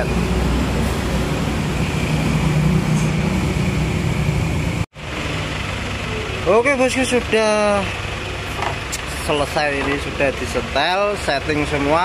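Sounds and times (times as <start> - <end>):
low motor rumble: 0.0 - 12.0.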